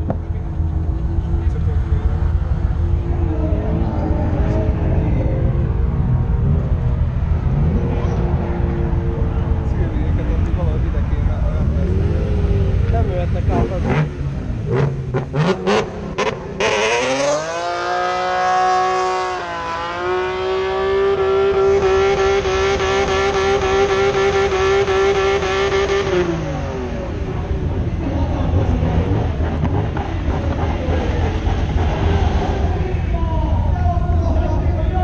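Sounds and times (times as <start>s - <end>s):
car engine revving: 0.0s - 35.0s
crowd noise: 0.0s - 35.0s.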